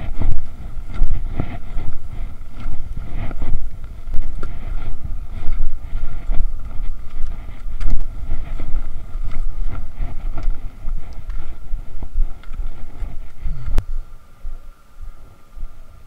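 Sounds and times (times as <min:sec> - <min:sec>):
ski clicks and scrapes: 0:00.0 - 0:13.8
wind buffeting microphone: 0:00.0 - 0:16.0.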